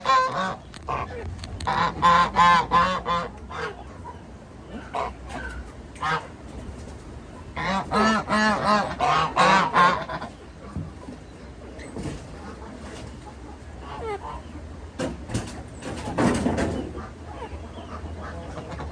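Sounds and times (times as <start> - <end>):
geese honking: 0.0 - 6.6, 7.3 - 15.0, 16.6 - 18.9.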